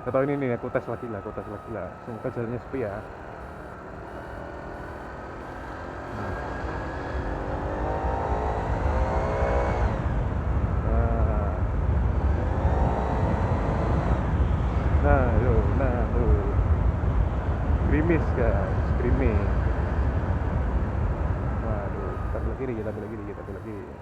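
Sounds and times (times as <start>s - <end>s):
scooter pulley fan whine: 0.0s - 24.0s.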